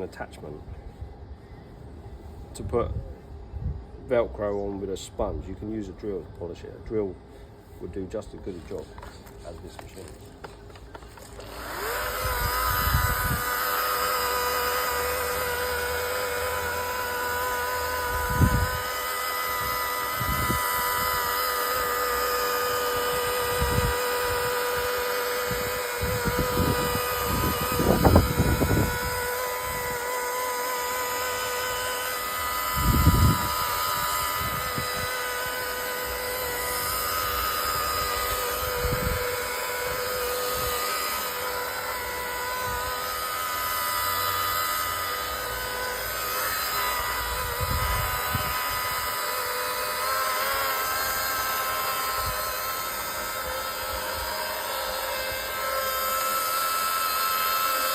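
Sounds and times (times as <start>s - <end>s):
polishing machine motor whine: 7.4s - 57.9s.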